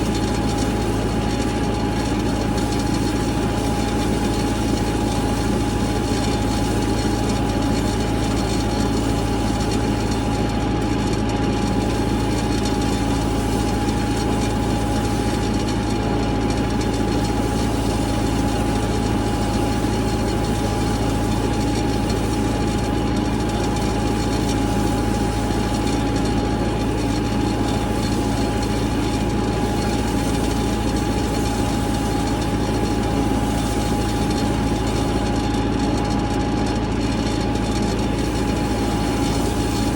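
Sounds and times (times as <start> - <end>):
constant whine: 0.0 - 39.9
tractor engine running: 0.0 - 39.9.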